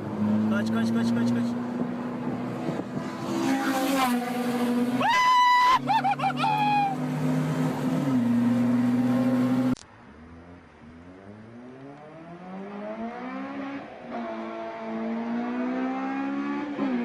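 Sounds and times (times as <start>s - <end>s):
car engine revving: 0.0s - 5.1s, 5.9s - 17.0s.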